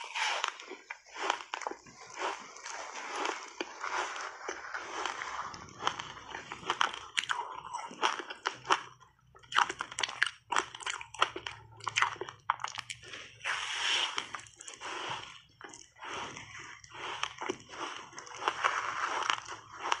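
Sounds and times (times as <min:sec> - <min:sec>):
crunching and chewing ice: 0:00.0 - 0:20.0.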